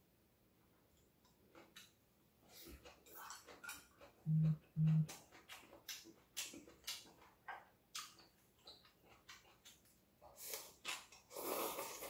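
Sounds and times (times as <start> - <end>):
mouth clicks and chewing smacks: 1.2 - 11.3.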